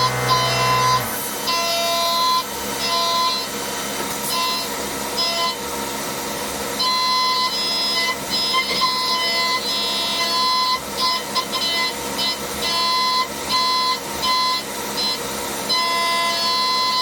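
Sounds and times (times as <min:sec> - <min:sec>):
machine running noise: 0:00.0 - 0:17.0
milling tool whining in metal: 0:00.0 - 0:17.0.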